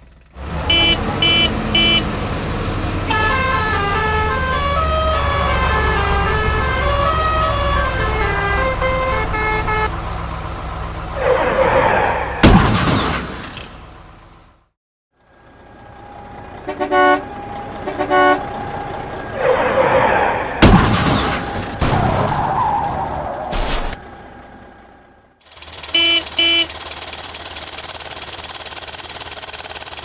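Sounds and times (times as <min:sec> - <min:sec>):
cartoon truck engine rumbling: 0:00.0 - 0:30.0.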